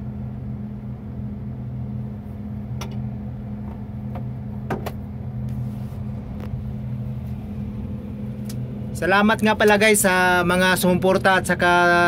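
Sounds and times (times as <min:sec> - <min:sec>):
crane engine humming in cab: 0:00.0 - 0:12.0.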